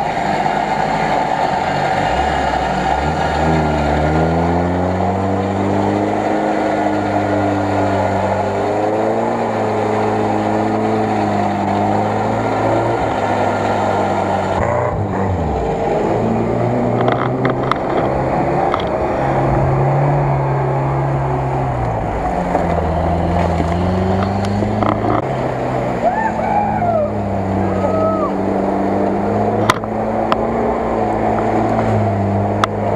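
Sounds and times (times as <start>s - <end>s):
off-road engines revving: 0.0s - 32.9s.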